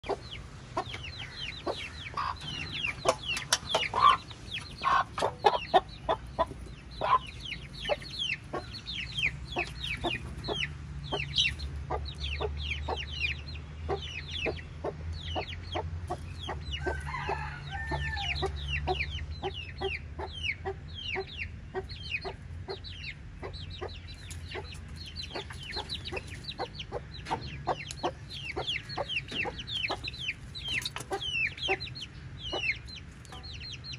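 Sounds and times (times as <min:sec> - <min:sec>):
chicken calls: 0:00.0 - 0:33.9
chicks peeping: 0:00.0 - 0:33.9.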